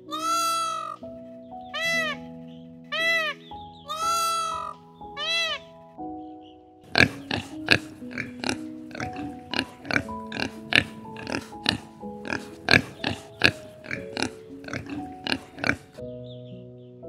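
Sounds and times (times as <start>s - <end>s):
background music of held notes: 0.0s - 17.0s
piglets grunting: 0.1s - 1.1s, 1.7s - 5.6s, 6.9s - 16.0s.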